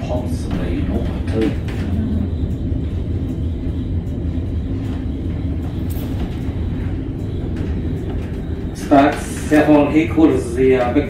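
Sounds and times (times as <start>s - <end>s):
tram rolling on rails: 0.0s - 11.0s.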